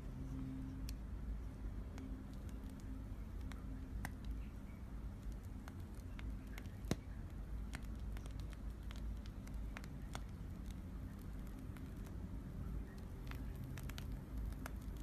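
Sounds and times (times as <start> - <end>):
foamy slime crackling pops: 1.7 - 15.0.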